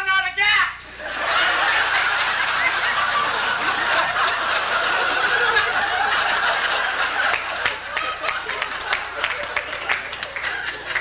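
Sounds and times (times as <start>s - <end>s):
audience laughing: 0.9s - 11.0s.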